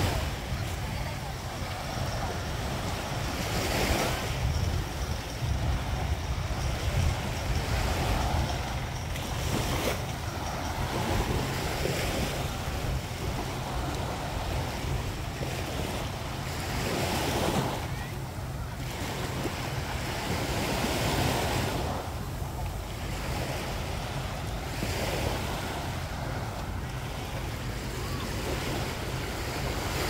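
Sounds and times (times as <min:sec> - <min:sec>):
waves breaking on beach: 0:00.0 - 0:30.0
wind buffeting microphone: 0:00.0 - 0:30.0.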